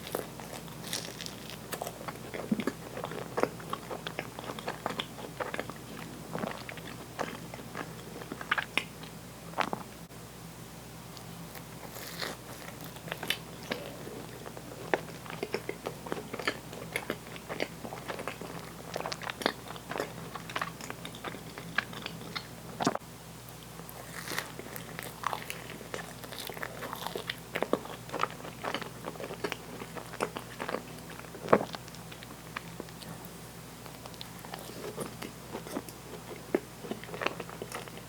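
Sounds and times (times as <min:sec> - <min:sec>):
person chewing crunchy food: 0:00.0 - 0:09.9, 0:11.1 - 0:38.0.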